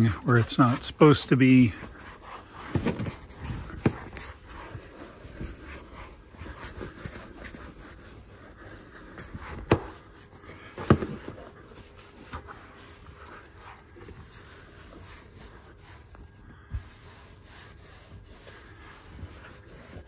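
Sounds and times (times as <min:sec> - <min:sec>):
cloth rubbing on upholstery: 0:00.0 - 0:10.4, 0:11.5 - 0:20.0.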